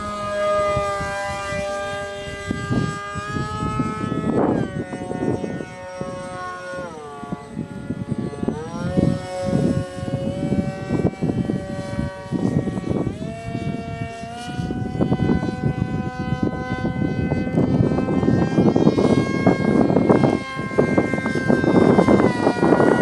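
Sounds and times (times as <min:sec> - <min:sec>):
gusty rumbling noise: 0:00.0 - 0:23.0
model plane motor whining: 0:00.0 - 0:23.0.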